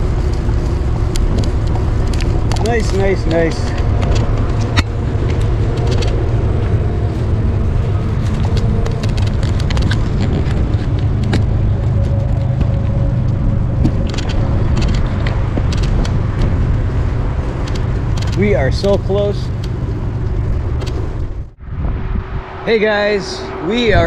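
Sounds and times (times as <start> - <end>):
bicycle clicks: 0.0 - 21.5
tyre road noise: 0.0 - 24.0
wind rush on microphone: 0.0 - 24.0.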